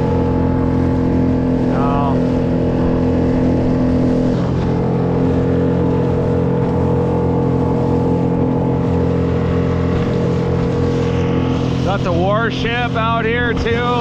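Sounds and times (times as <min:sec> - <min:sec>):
small outboard motor running: 0:00.0 - 0:14.0.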